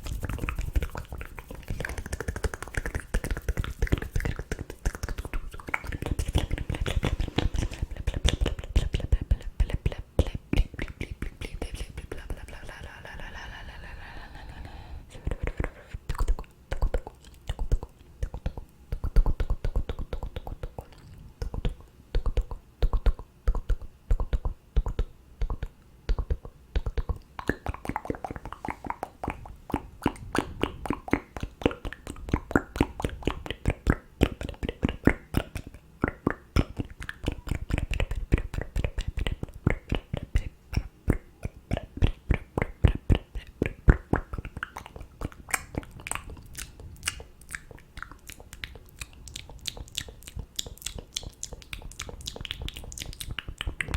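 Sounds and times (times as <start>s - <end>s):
wet mouth clicks and pops: 0.0s - 10.0s, 15.6s - 53.9s.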